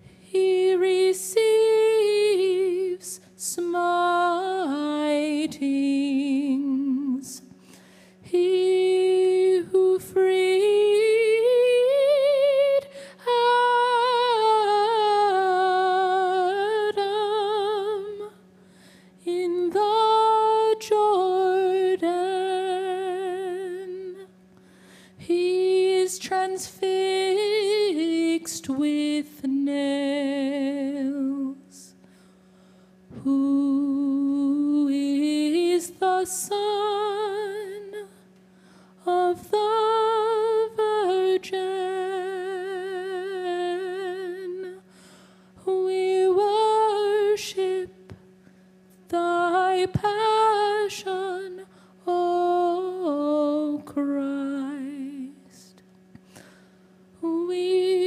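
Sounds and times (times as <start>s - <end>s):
woman singing unaccompanied: 0.0s - 7.6s, 8.2s - 18.6s, 19.2s - 24.5s, 25.2s - 32.0s, 33.1s - 38.4s, 39.0s - 44.9s, 45.6s - 48.2s, 49.0s - 55.8s, 57.1s - 58.0s
faint low hum: 0.0s - 58.0s.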